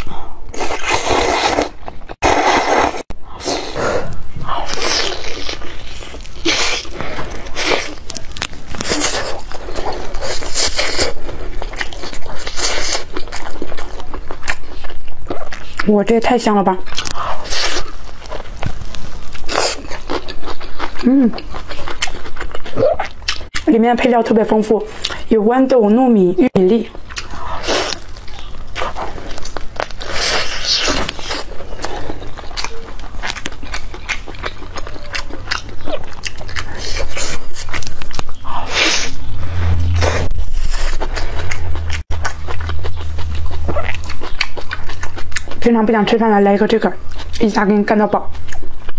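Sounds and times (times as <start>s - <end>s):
crunchy bites and chewing: 0.0s - 15.9s, 16.8s - 23.6s, 27.0s - 40.0s, 40.7s - 45.7s.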